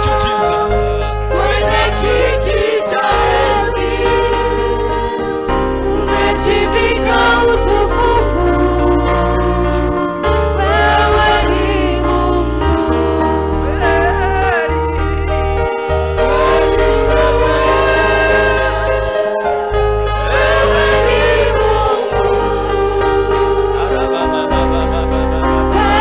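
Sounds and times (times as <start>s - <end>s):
group singing gospel music: 0.0s - 26.0s
sustained bass notes: 0.0s - 26.0s.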